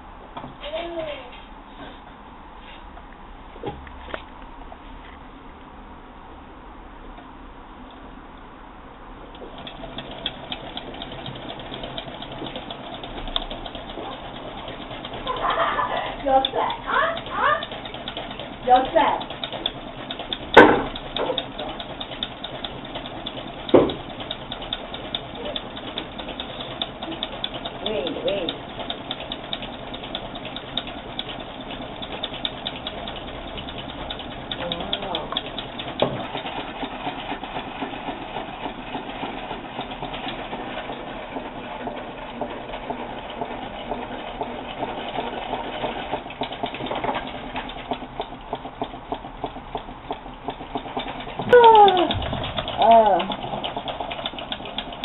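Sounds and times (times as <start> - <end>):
engine mechanism ticking: 9.3 - 55.0
engine knock: 9.4 - 55.0.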